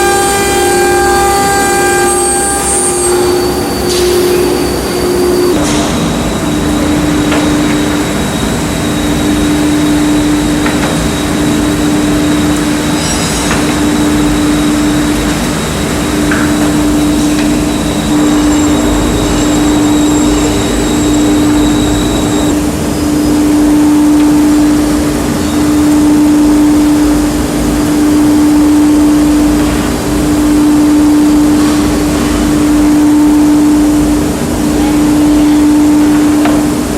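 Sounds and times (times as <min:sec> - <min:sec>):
faint high whine: 0:00.0 - 0:36.7
machine hum: 0:00.0 - 0:36.9.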